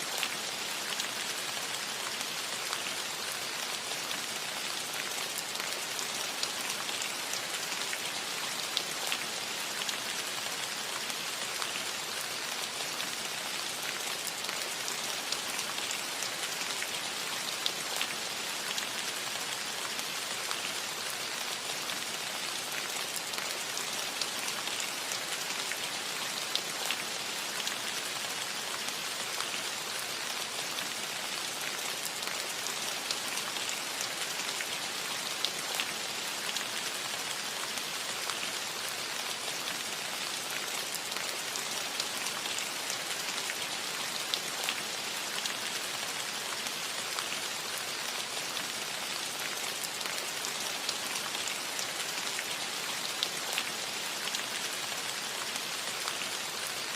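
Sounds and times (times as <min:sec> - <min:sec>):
rain on a metal roof: 0:00.0 - 0:56.9.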